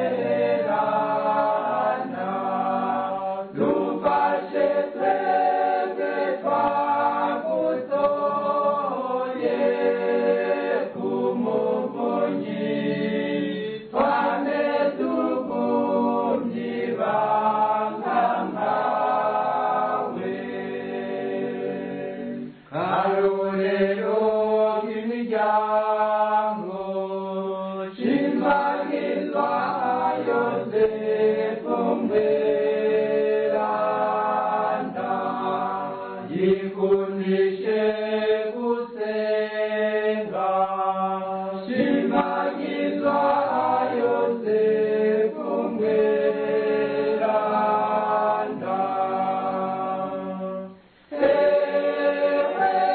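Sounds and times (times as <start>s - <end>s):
choir singing a hymn: 0.0s - 52.9s.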